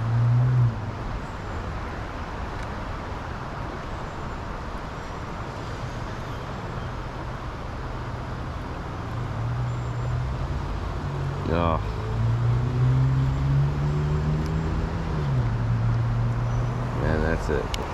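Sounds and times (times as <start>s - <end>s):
road traffic: 0.0s - 17.9s
vehicles passing: 0.0s - 17.9s.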